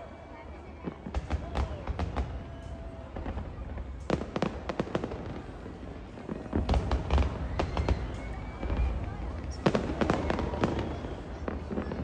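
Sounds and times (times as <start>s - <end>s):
fireworks cracking and crackling: 0.6s - 12.0s
deep firework booms: 1.0s - 12.0s.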